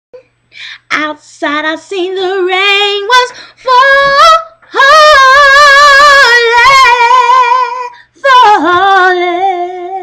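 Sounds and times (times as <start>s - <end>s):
high voice singing with vibrato: 0.9s - 10.0s.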